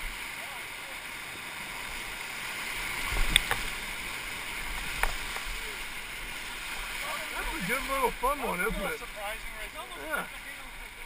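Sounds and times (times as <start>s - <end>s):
whitewater rapids rushing: 0.0s - 11.0s.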